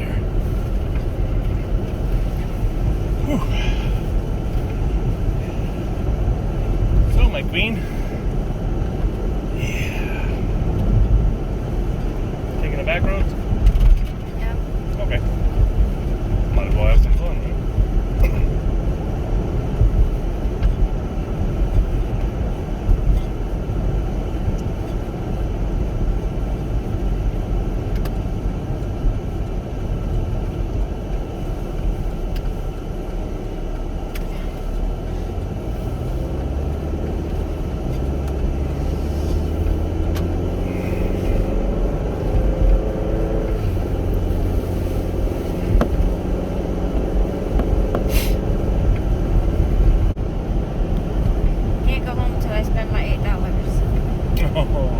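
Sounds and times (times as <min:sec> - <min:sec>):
car engine accelerating: 0:00.0 - 0:54.9
road rumble: 0:00.0 - 0:54.9.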